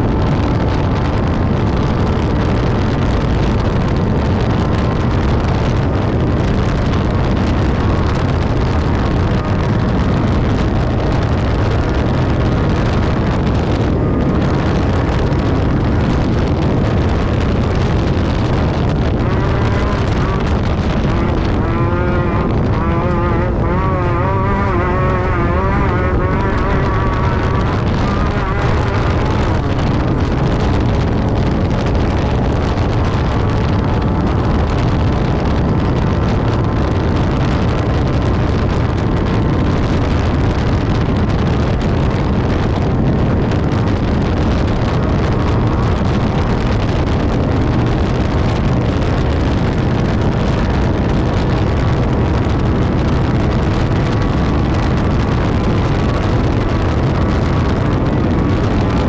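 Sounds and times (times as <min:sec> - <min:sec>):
race buggy engine: 0:00.0 - 0:59.0.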